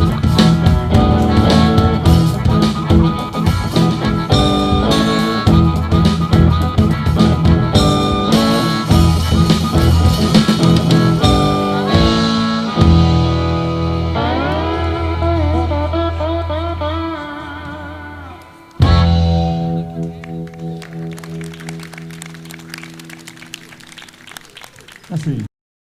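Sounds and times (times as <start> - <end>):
blues band instrumental: 0.0 - 25.1.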